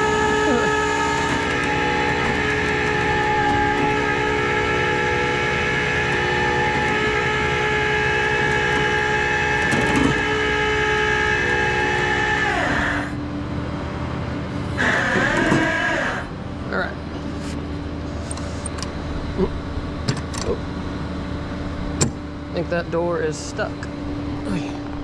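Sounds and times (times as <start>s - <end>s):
truck engine and hydraulics whining: 0.0s - 25.0s.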